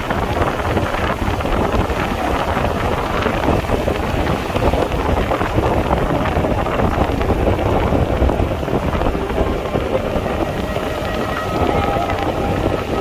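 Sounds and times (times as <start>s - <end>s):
loud rushing noise with rumble: 0.0s - 13.0s.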